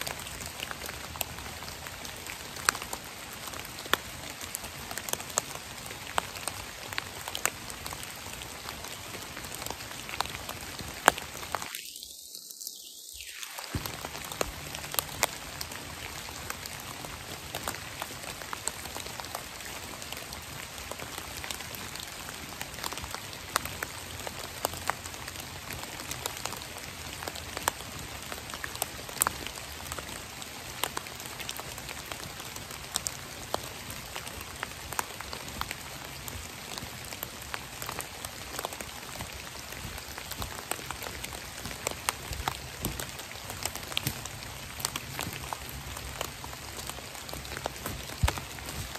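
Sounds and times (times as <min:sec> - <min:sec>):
raindrops ticking: 0:00.0 - 0:11.7, 0:13.6 - 0:48.9
rain pattering on dead leaves: 0:00.0 - 0:48.9.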